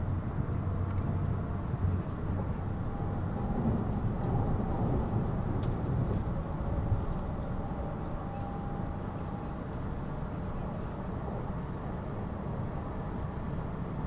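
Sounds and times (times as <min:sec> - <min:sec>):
low rumble of train wheels on rail: 0:00.0 - 0:14.0.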